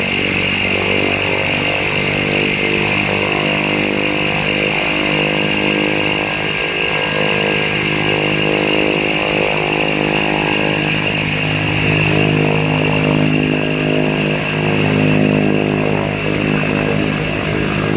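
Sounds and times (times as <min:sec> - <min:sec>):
turboprop engine running: 0:00.0 - 0:17.9.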